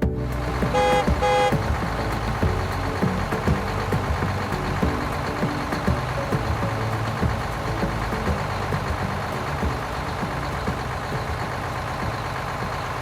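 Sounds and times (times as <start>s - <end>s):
low engine knocks: 0.0s - 13.0s
truck engine idling: 0.2s - 13.0s.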